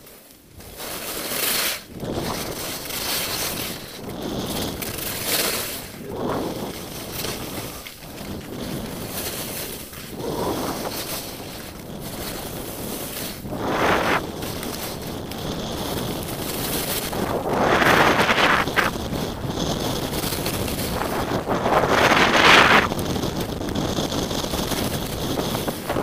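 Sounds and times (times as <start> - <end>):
skis hissing over snow: 0.0 - 26.0
wind rushing over microphone: 1.8 - 26.0.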